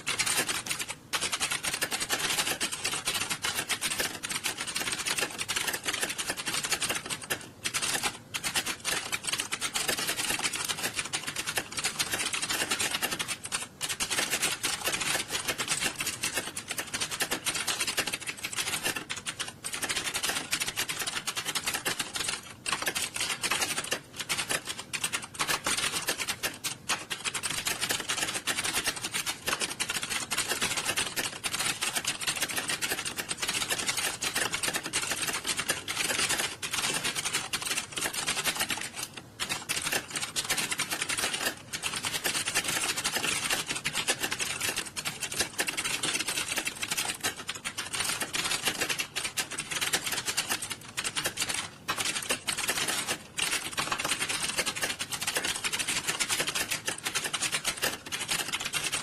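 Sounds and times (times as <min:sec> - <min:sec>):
keyboards typing clatter: 0:00.0 - 0:59.0.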